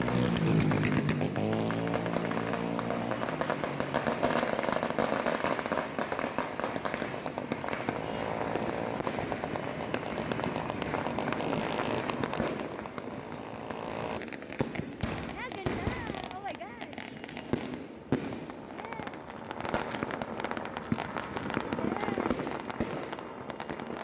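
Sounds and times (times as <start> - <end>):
fireworks and firecrackers popping: 0.0 - 24.0.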